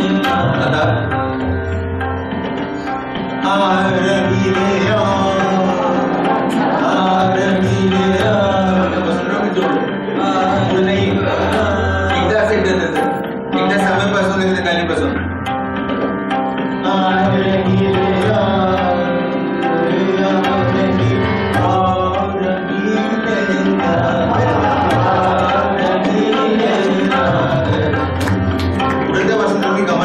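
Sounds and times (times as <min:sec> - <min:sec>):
man singing: 0:00.0 - 0:01.8, 0:03.4 - 0:15.3, 0:16.8 - 0:30.0
harmonium: 0:00.0 - 0:30.0
tabla: 0:00.0 - 0:30.0.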